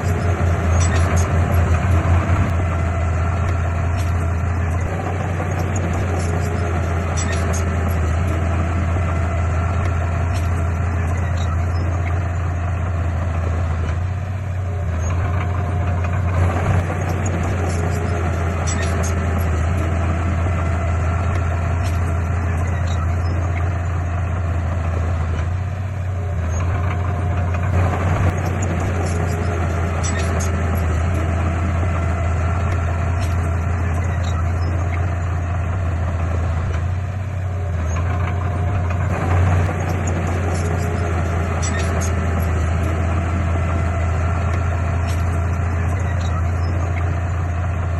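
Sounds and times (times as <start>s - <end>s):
diesel engine droning: 0.0s - 47.9s.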